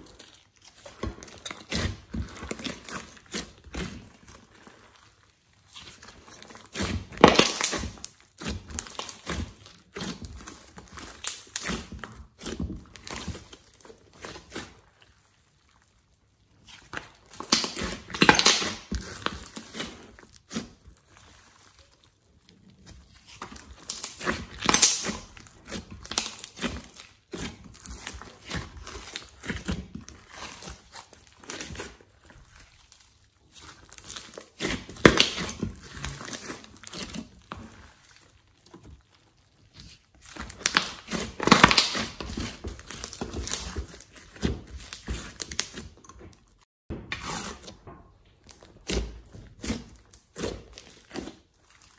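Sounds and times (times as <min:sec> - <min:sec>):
slime squelching by hand: 0:00.0 - 0:51.9.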